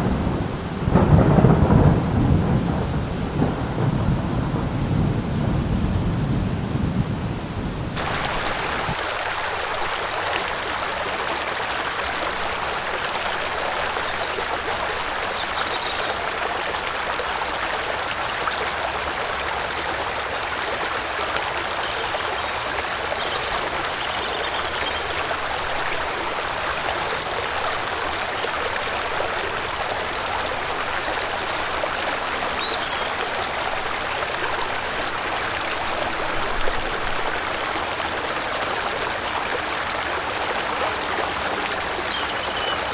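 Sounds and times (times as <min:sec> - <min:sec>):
rushing water: 0:00.0 - 0:05.0, 0:07.8 - 0:42.9.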